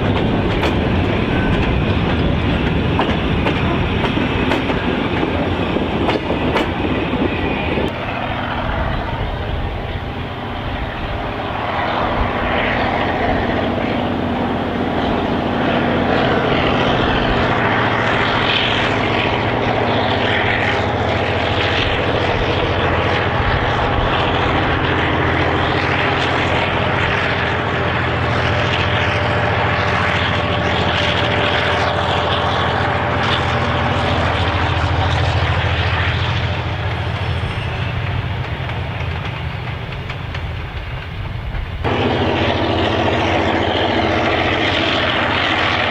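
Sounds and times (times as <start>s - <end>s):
diesel locomotive engine drone: 0.0s - 45.9s.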